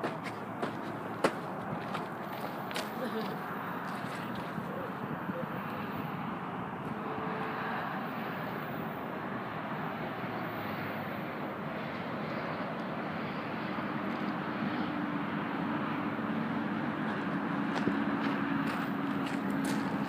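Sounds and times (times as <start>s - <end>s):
distant vehicle rumble: 0.0s - 20.0s.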